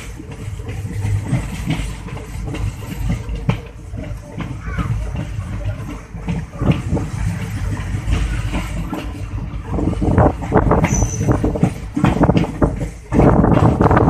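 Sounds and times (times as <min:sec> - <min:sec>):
train coach rumbling: 0:00.0 - 0:14.0
wheels knocking and rattling: 0:00.0 - 0:14.0.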